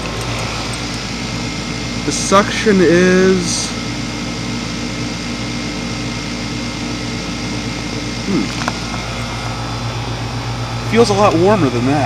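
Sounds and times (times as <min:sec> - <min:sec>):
compressor hum: 0:00.0 - 0:12.0
condenser fan whoosh: 0:00.0 - 0:12.0.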